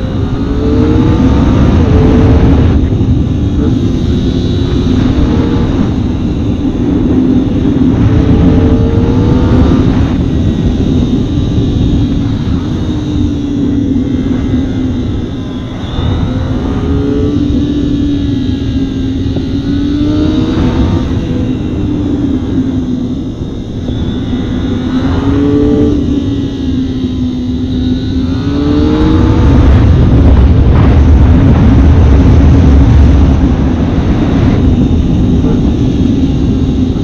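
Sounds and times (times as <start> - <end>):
motorcycle engine revving: 0.0 - 37.0
wind on microphone: 0.0 - 37.0.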